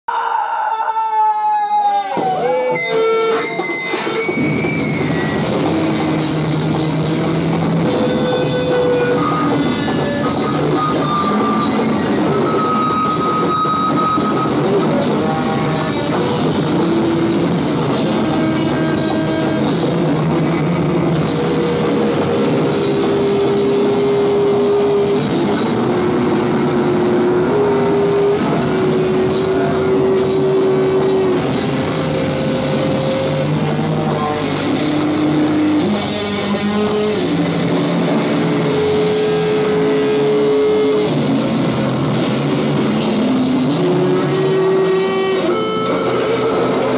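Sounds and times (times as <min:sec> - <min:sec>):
distorted electric guitar: 0:02.1 - 0:46.9
drum kit: 0:02.1 - 0:46.9.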